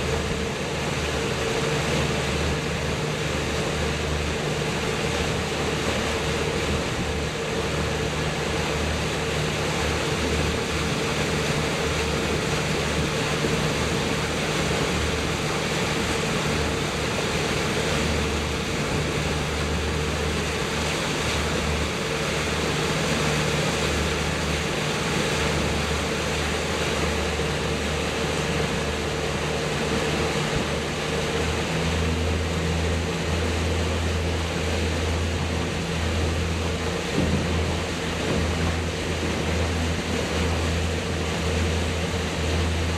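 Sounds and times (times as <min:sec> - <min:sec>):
boat motor humming: 0:00.0 - 0:42.9
wind and water rushing: 0:00.0 - 0:42.9.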